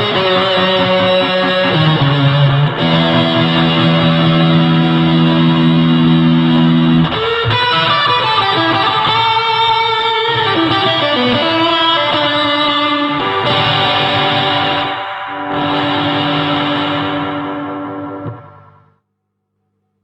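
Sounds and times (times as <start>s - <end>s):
electric guitar with fuzz: 0.0s - 19.0s.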